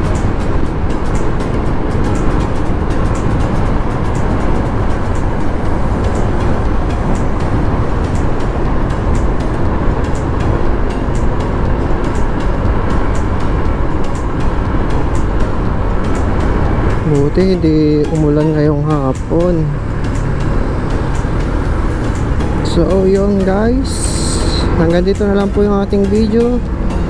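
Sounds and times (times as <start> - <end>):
motorcycle road noise: 0.0 - 27.0
wind rush: 0.0 - 27.0.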